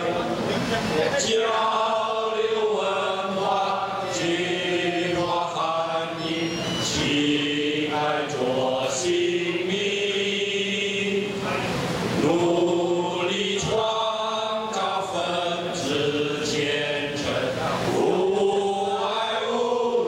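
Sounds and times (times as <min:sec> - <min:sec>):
group of men singing in unison: 0:00.0 - 0:20.0.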